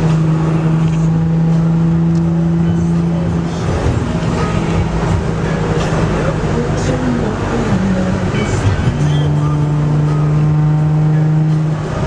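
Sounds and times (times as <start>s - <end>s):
car engine and road rumble: 0.0s - 12.0s
low droning tone: 0.0s - 12.0s.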